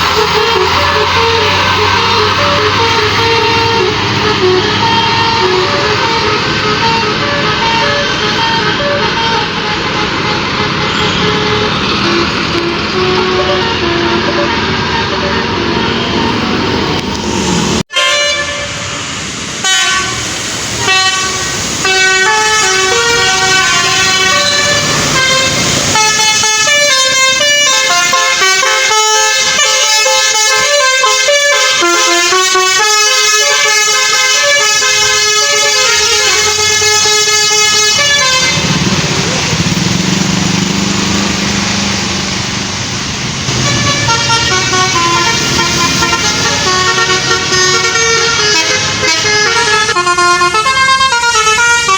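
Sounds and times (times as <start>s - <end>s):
musical bus horn playing a tune: 0.0s - 41.8s, 43.5s - 51.9s.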